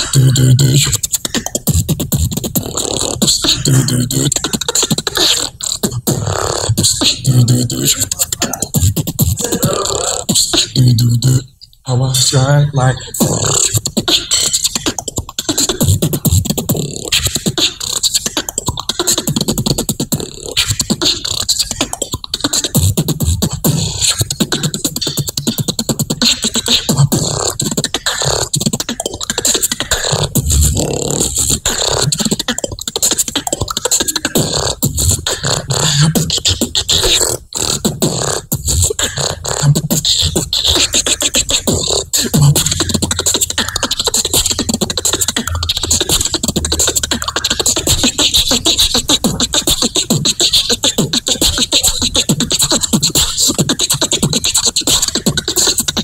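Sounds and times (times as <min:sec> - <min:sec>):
beatboxing into a microphone: 0:00.0 - 0:56.0.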